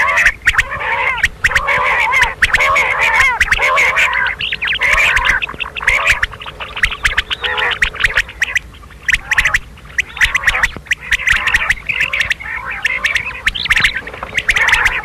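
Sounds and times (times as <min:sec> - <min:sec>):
quail chirping: 0:00.0 - 0:15.0.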